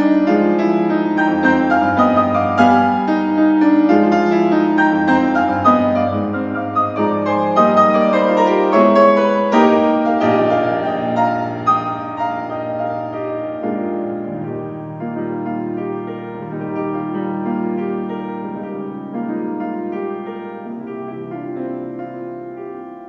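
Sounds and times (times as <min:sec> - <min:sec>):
grand piano playing fast passage: 0:00.0 - 0:23.0.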